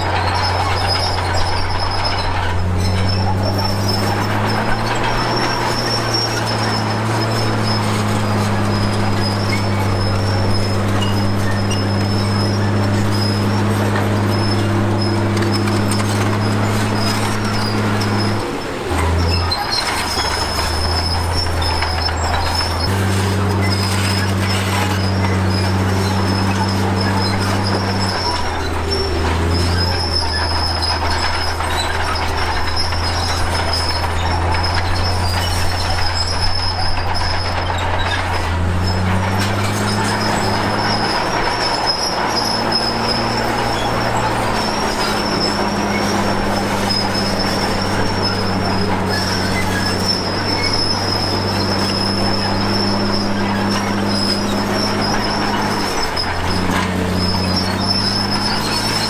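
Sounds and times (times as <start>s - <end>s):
bulldozer diesel engine running: 0.0s - 59.0s
steel tracks squealing and clattering: 0.0s - 59.0s.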